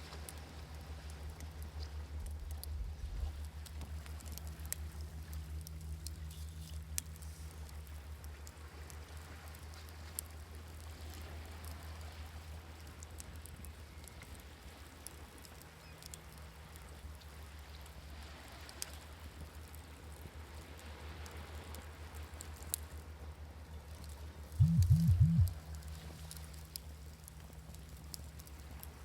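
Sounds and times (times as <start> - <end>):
steady low hum: 0.0 - 29.0
campfire crackling and popping: 0.3 - 29.0.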